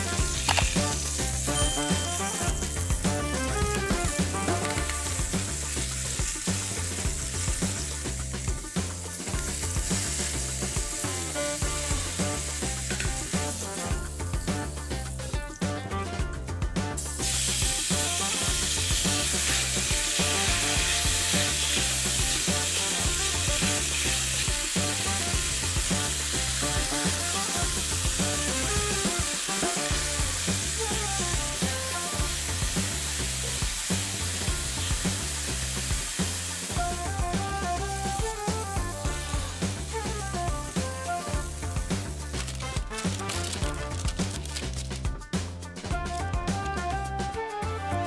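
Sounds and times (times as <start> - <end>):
meat sizzling in a pan: 0.0 - 15.6, 16.9 - 45.0
background music: 0.0 - 48.0.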